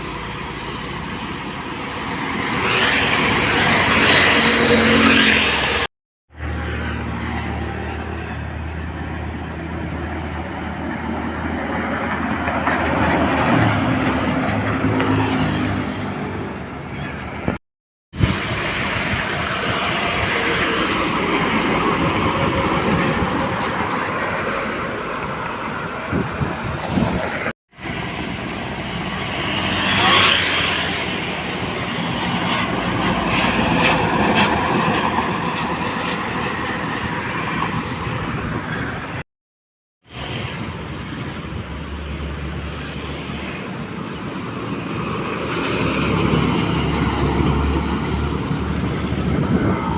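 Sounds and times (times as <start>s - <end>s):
heavy trucks driving past: 0.0s - 17.6s, 18.2s - 39.2s, 40.1s - 49.9s.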